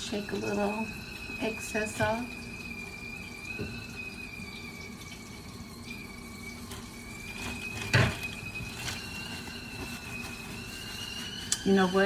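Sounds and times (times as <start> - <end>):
high-pitched whine of heating water: 0.0 - 12.0.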